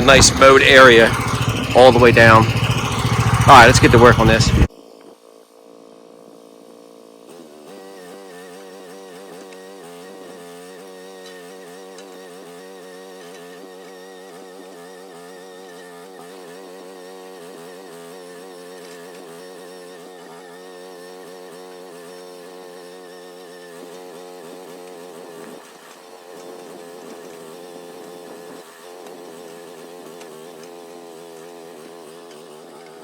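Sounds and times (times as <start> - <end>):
mini excavator engine running: 0.0 - 4.7, 7.8 - 33.0.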